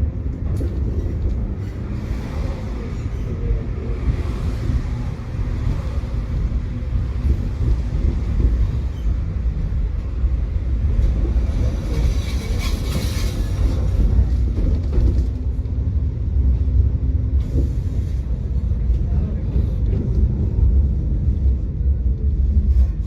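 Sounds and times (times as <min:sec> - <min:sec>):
tram wheels and motors rumbling: 0:00.0 - 0:23.0.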